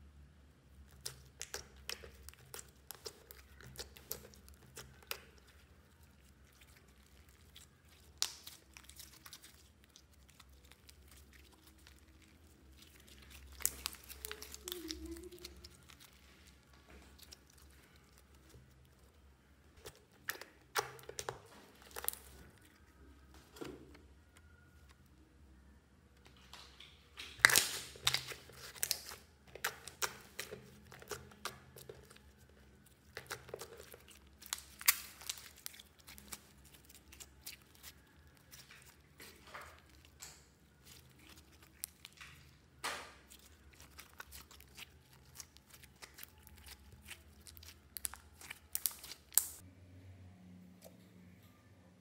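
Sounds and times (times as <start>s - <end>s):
sticky slime popping: 0.8s - 19.1s, 19.8s - 22.9s, 26.5s - 49.6s.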